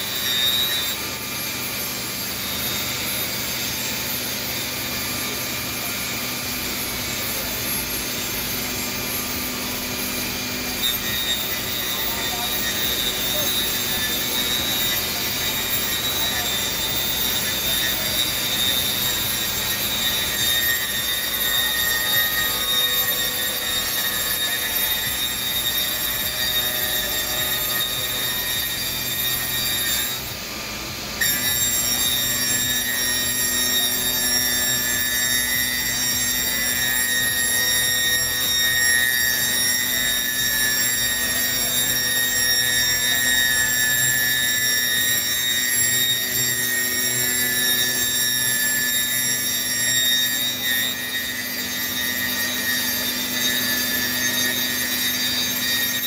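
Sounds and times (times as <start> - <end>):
machine high-pitched whine: 0.0 - 56.0.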